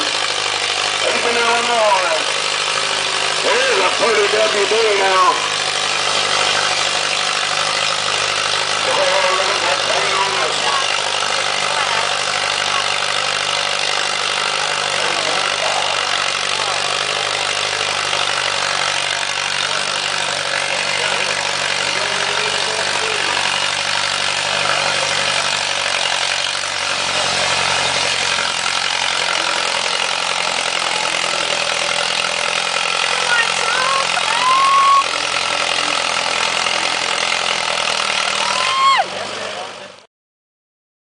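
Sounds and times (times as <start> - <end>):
tractor engine running: 0.0 - 40.1.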